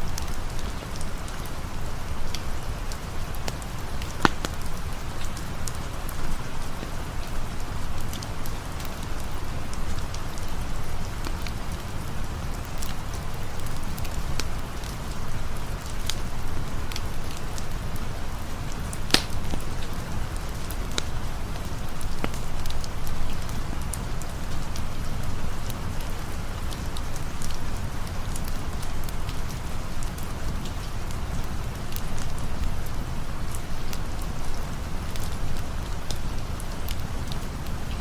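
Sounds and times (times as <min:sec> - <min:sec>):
campfire crackling and popping: 0:00.0 - 0:38.0
steady rain: 0:00.0 - 0:38.0.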